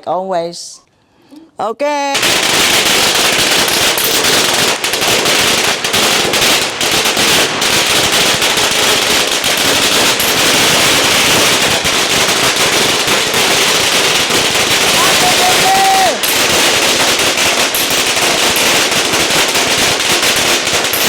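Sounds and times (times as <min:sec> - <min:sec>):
firecrackers crackling: 0:02.1 - 0:21.0.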